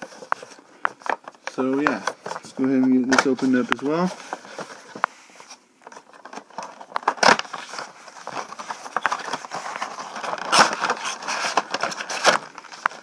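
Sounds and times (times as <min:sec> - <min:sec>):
cardboard packaging rustling: 0:00.0 - 0:13.0.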